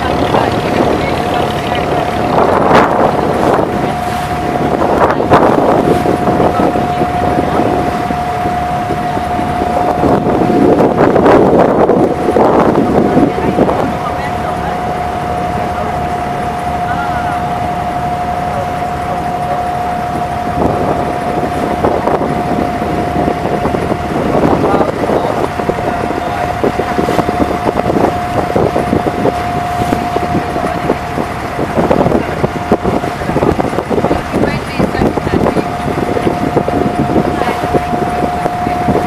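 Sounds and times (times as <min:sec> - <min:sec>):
boat diesel engine whining: 0:00.0 - 0:39.0
wind buffeting microphone: 0:00.0 - 0:39.0.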